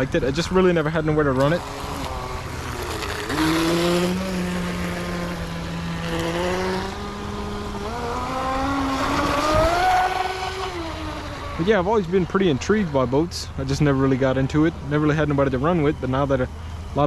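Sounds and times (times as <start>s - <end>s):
electric boat motor whining: 0.0s - 17.0s.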